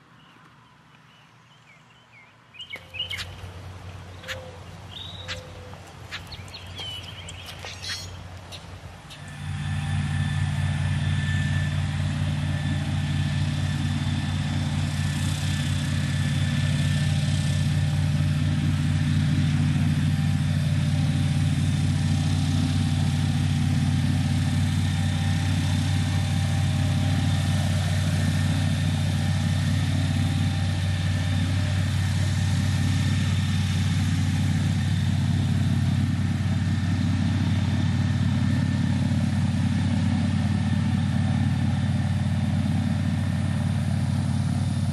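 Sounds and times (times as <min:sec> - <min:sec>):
airboat engine and propeller: 0:02.9 - 0:44.9.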